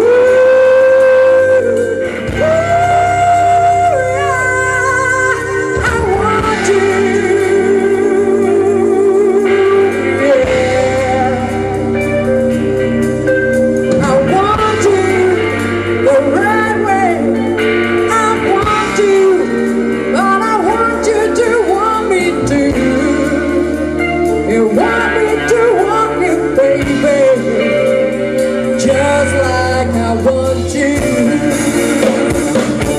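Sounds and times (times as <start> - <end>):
woman singing: 0.0 - 12.6, 13.8 - 32.9
live band playing pop: 0.0 - 32.9.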